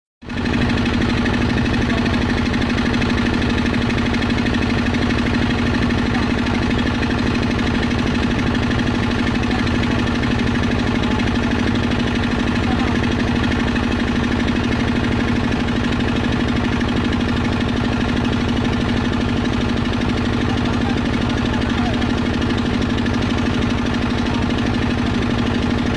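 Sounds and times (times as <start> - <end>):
boat engine chugging: 0.2 - 25.9.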